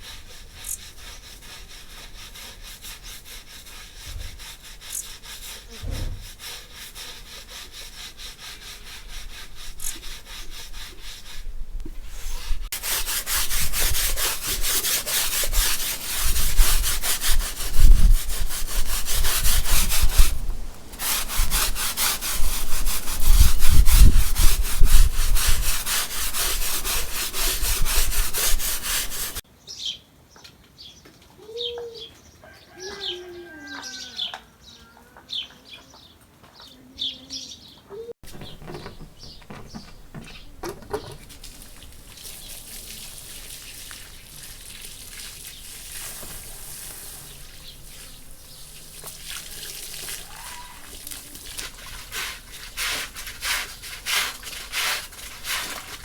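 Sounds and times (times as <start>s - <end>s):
stiff brush scrubbing: 0.0s - 29.4s, 38.2s - 56.0s.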